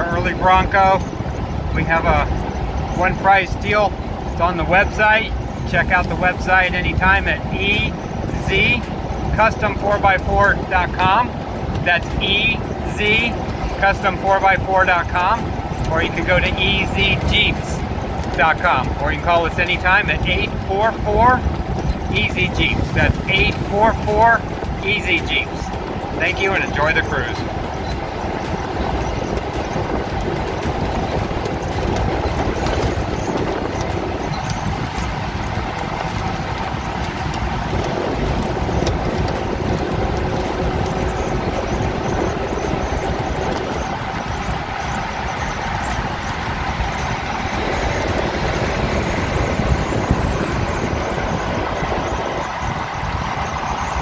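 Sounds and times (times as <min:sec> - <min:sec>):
car engine running: 0:00.0 - 0:54.0
road and tyre noise: 0:00.0 - 0:54.0.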